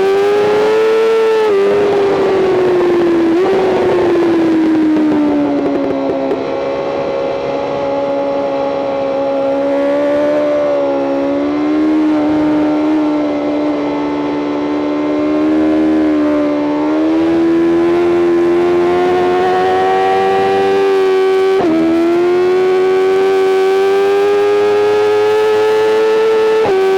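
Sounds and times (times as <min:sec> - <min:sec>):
motorcycle engine at high revs: 0:00.0 - 0:26.9.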